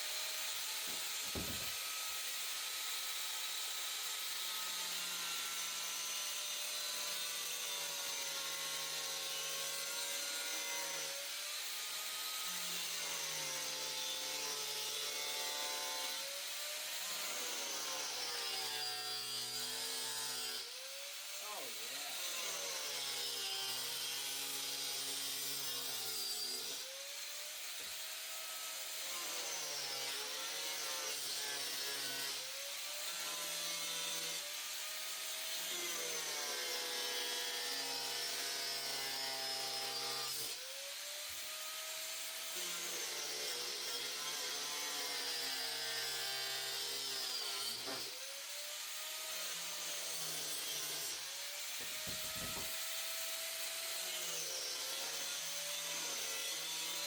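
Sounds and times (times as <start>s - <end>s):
angle grinder cutting plastic: 0.0s - 57.0s.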